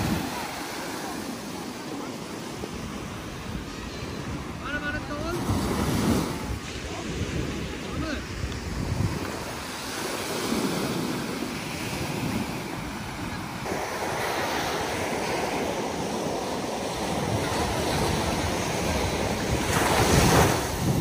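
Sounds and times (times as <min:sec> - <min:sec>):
waves breaking on sandy beach: 0:00.0 - 0:21.0.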